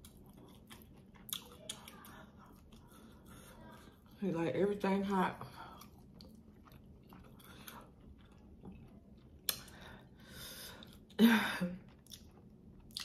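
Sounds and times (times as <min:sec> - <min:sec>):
person chewing: 0:00.0 - 0:04.2, 0:05.5 - 0:11.2, 0:11.8 - 0:13.0.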